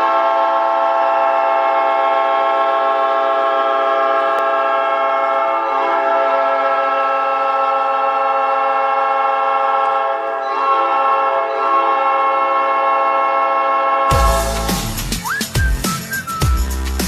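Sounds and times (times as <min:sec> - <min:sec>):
goal horn chord: 0:00.0 - 0:15.1.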